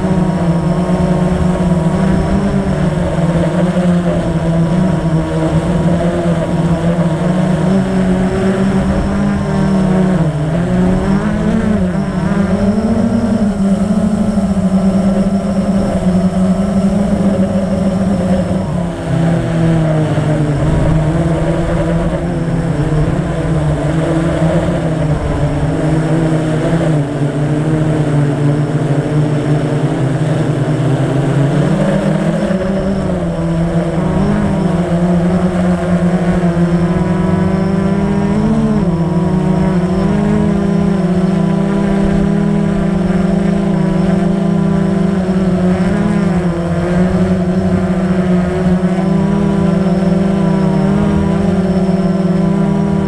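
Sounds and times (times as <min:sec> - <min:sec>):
drone propellers buzzing: 0:00.0 - 0:53.0.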